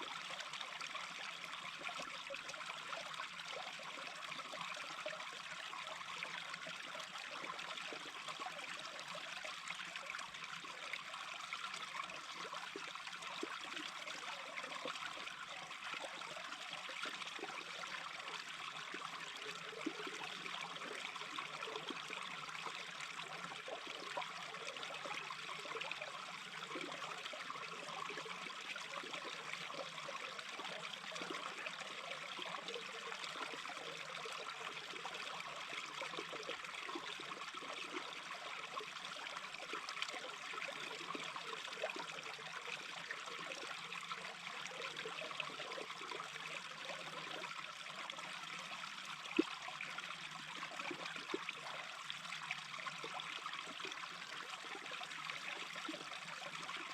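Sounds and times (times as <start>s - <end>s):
brook babbling: 0.0s - 56.9s.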